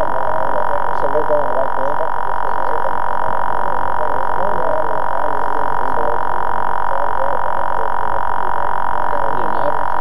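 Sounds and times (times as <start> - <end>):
loud steady whine with hiss: 0.0 - 10.0.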